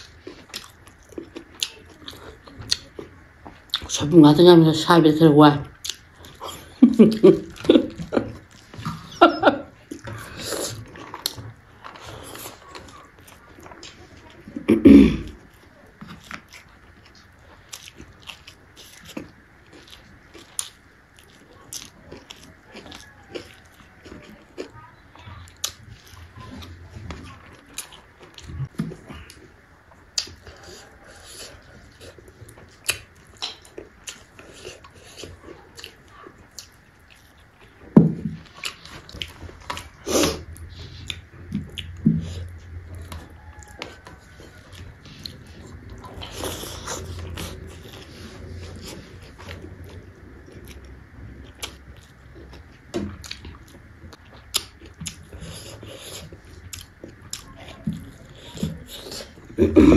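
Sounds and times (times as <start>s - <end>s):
wet chewing and mouth smacks: 0.0s - 3.9s, 5.8s - 9.2s, 15.3s - 59.6s.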